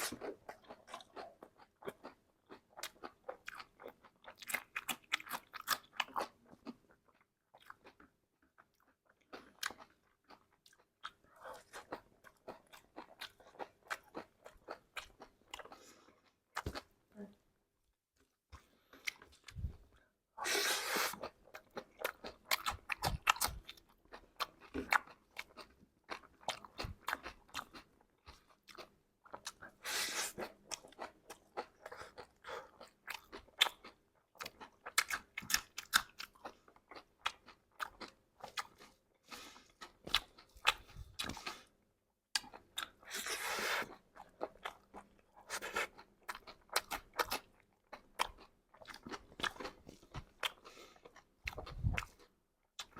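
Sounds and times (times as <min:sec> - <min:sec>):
chewing and crunching snack: 0:00.0 - 0:17.4, 0:18.2 - 0:52.9.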